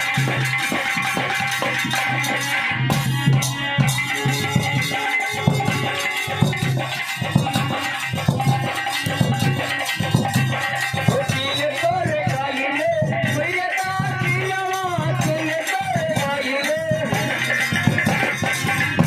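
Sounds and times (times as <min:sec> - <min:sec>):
hand drum beating quick rhythm: 0:00.0 - 0:19.0.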